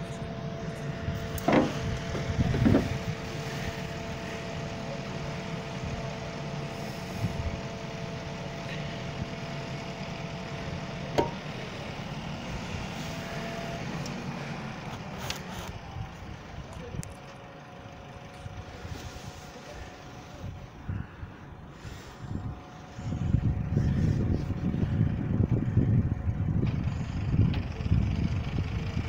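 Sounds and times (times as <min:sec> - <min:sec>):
boom drive whine: 0:00.0 - 0:29.0
engine drone: 0:00.0 - 0:29.0.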